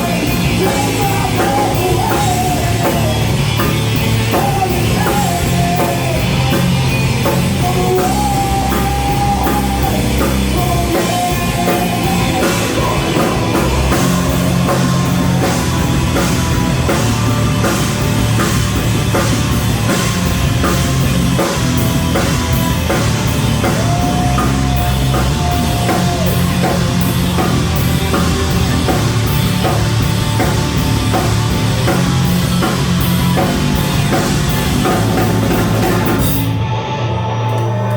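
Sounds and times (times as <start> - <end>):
drum kit steady beat: 0.0 - 36.7
bass guitar: 0.0 - 37.9
distorted electric guitars: 0.0 - 37.9.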